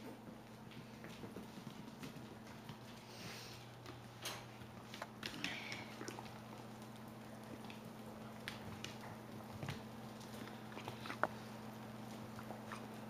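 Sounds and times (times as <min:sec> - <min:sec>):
puppies scuffling on carpet: 0:00.0 - 0:13.0.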